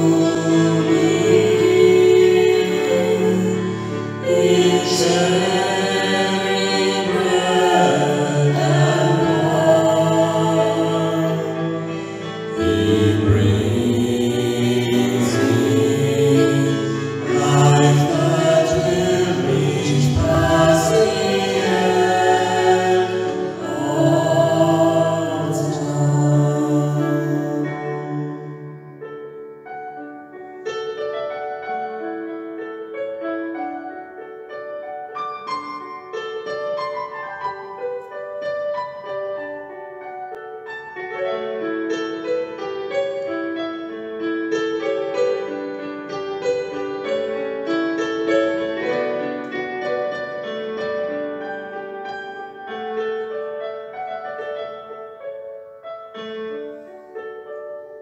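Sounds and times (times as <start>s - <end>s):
digital piano playing: 0.0s - 58.0s.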